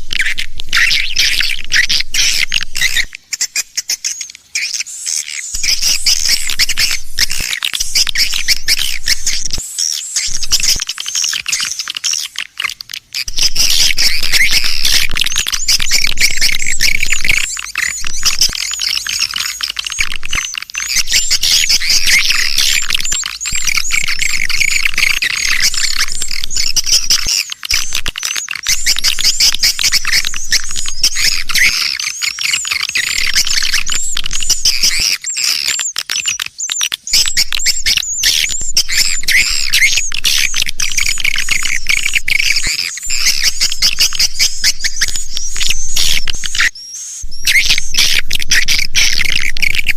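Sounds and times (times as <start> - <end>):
swiftlets twittering and chirping: 0.0 - 49.9.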